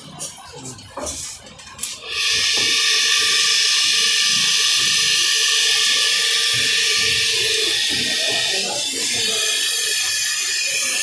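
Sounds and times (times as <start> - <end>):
churning machine motor whirring: 2.0 - 11.0.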